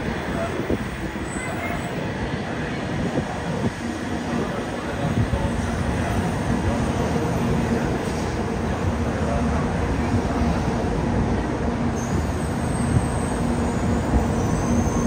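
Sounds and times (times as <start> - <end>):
high-speed train rumble: 0.0 - 15.0.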